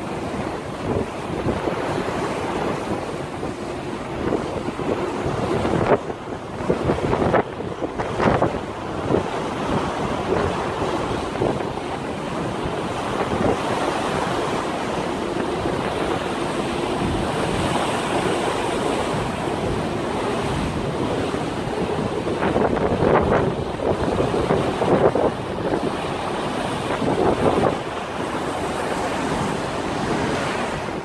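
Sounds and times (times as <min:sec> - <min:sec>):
choppy sea water: 0:00.0 - 0:31.0
wind buffeting microphone: 0:00.0 - 0:31.0.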